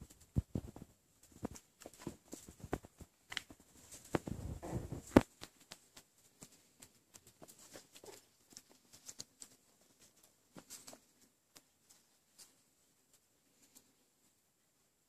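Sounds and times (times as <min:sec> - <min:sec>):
dog paws tapping on rug: 0:00.0 - 0:13.9.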